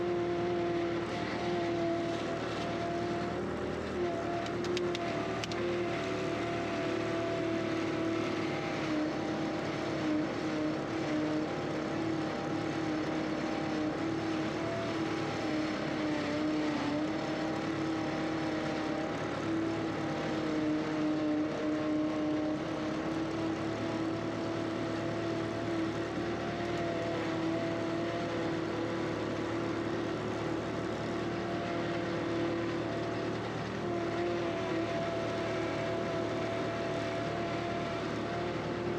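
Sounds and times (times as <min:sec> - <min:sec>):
skid steer engine drone: 0:00.0 - 0:38.9.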